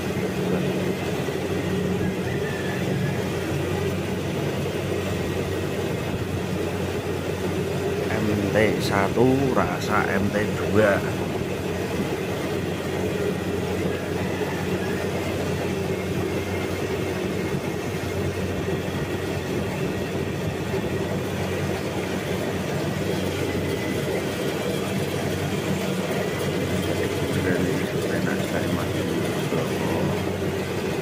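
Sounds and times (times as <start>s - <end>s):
combine harvester machinery drone: 0.0s - 31.0s.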